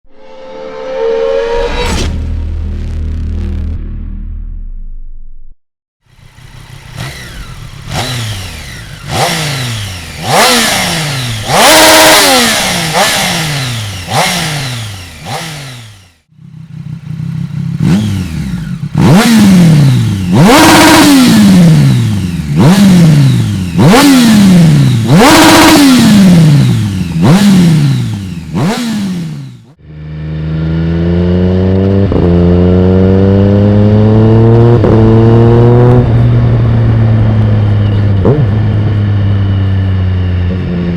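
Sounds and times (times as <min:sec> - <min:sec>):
motorcycle engine revving: 0:06.0 - 0:40.9.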